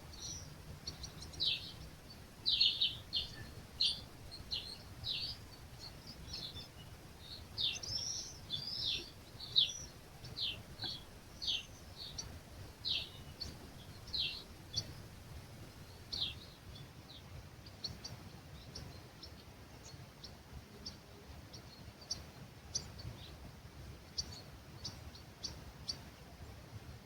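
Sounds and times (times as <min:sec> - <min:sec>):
low breeze rumble: 0:00.0 - 0:27.0
small birds chirping: 0:00.0 - 0:27.0.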